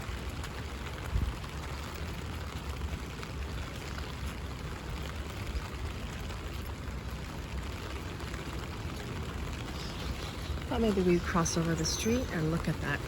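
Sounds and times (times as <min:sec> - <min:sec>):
rain on an umbrella: 0:00.0 - 0:13.0.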